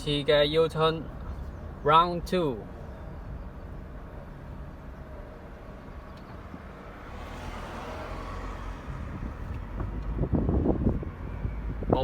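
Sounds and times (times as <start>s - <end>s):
car running: 0.0s - 12.0s.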